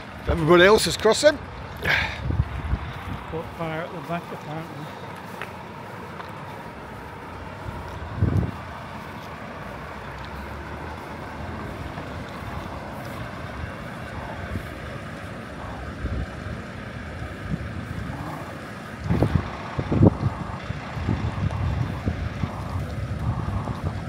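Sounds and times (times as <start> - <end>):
wind buffeting microphone: 0.0 - 4.6, 5.2 - 24.0
road traffic passing: 0.0 - 24.0.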